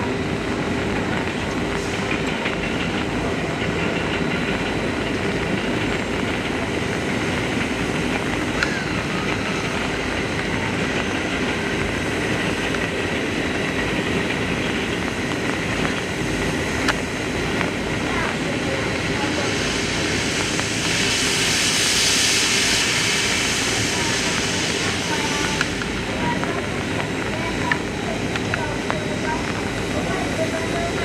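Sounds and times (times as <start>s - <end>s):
steam locomotive running on rails: 0.0s - 31.0s.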